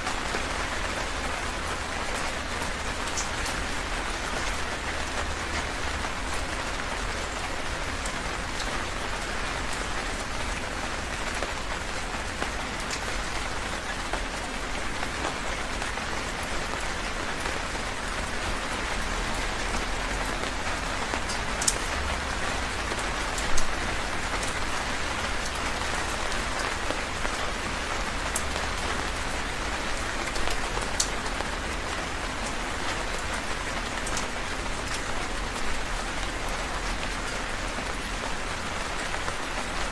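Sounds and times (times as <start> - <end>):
heavy rain: 0.0 - 39.9
sharp drips and splashes: 0.0 - 39.9.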